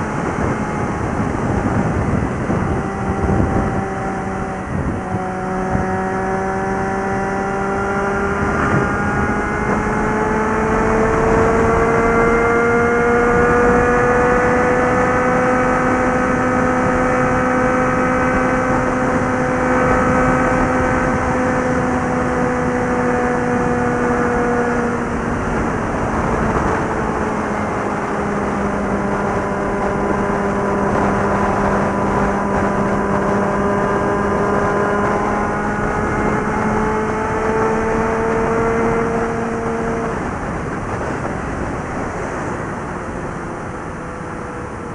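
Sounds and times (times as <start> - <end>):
motorcycle engine at speed: 0.0 - 44.9
wind and road rush: 0.0 - 44.9.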